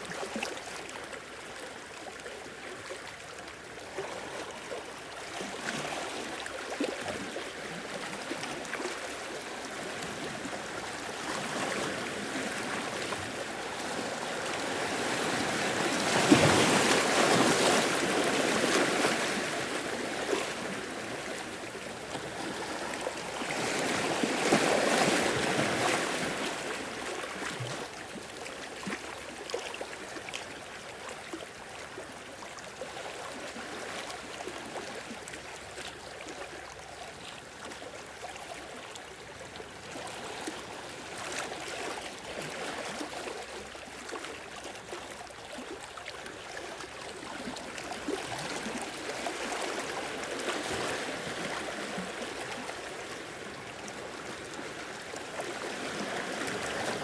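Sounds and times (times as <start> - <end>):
small waves lapping over rocks: 1.5 - 57.0.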